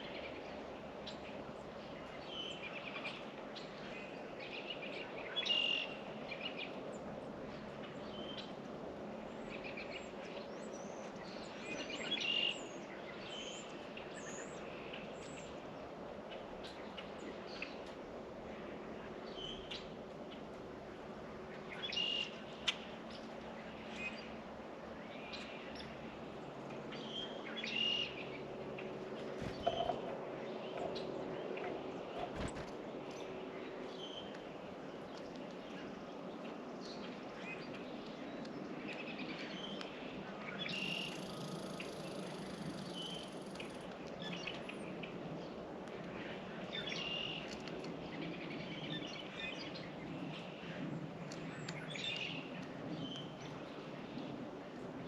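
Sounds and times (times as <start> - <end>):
songbirds chirping: 0.0 - 55.0
steady background hum: 0.0 - 55.0.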